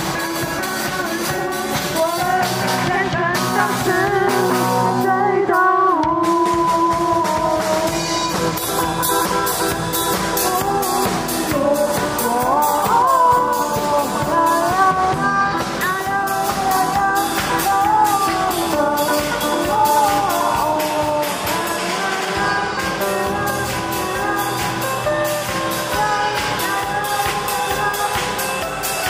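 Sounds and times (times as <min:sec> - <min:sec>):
drum kit beat: 0:00.0 - 0:29.0
electric guitar: 0:00.0 - 0:29.0
voices singing: 0:00.0 - 0:29.0.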